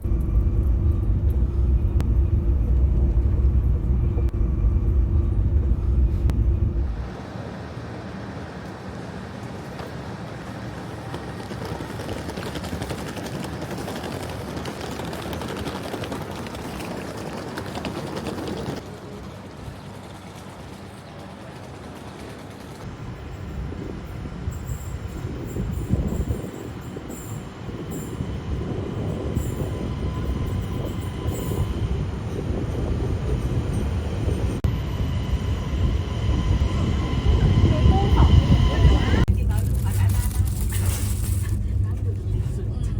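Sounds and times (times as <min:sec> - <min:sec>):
passenger train: 0:00.0 - 0:42.9.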